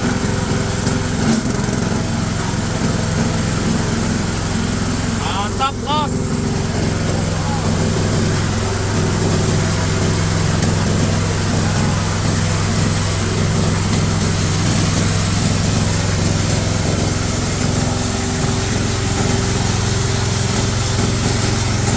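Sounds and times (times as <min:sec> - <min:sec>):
shredder machine engine drone: 0:00.0 - 0:21.9.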